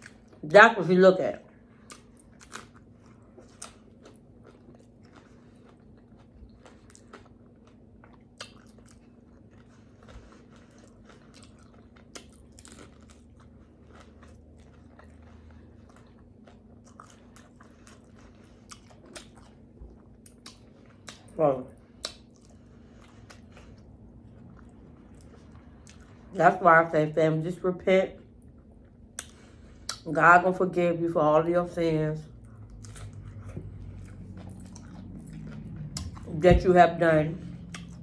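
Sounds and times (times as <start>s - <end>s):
chewing crunches: 1.5s - 26.4s, 28.2s - 30.1s, 32.2s - 36.4s, 37.4s - 38.0s.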